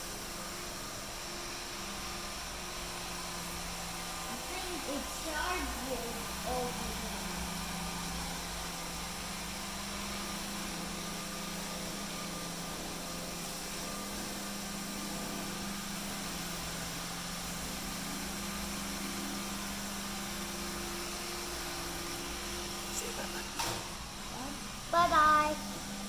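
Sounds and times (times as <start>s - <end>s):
robot vacuum motor hum: 0.0s - 26.0s.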